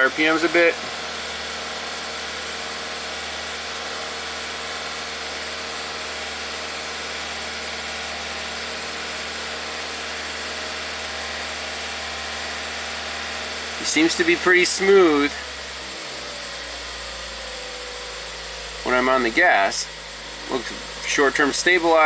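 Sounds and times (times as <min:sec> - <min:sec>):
car engine running steadily: 0:00.0 - 0:22.0.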